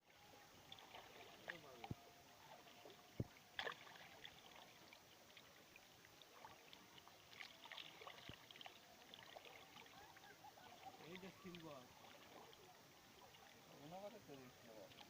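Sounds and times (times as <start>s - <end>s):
small water splashes: 0.3s - 15.0s.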